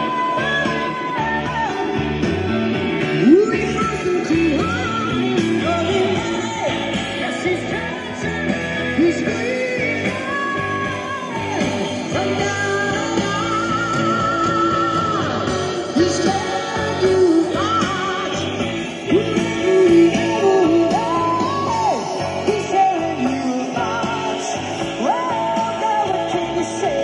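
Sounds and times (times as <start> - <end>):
rock and roll song with singing: 0.0 - 27.0.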